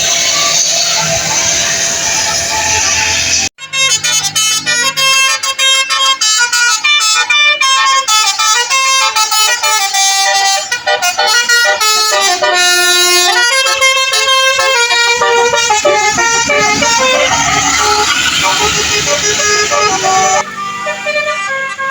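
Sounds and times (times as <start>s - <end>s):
bus air horns playing melody: 0.0s - 21.9s.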